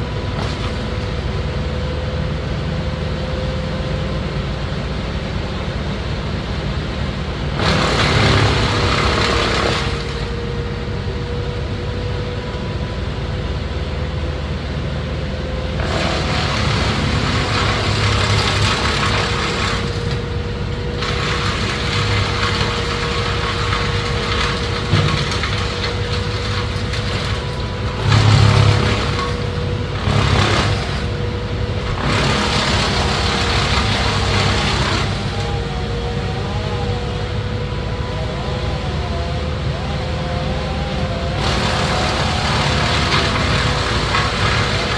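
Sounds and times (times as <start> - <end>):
tree-cutting machine engine running: 0.0 - 44.9.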